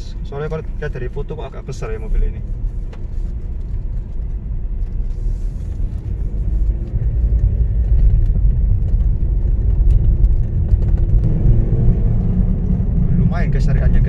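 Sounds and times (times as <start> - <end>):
car engine low rumble: 0.0 - 14.0
road noise: 0.0 - 14.0.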